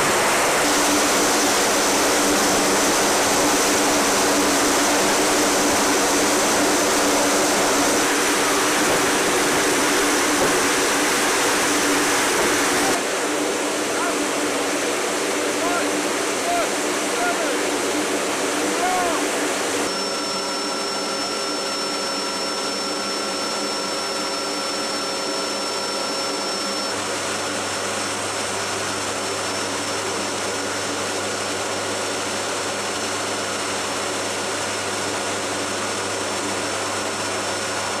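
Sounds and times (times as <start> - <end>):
turboprop engines whining: 0.0 - 38.0.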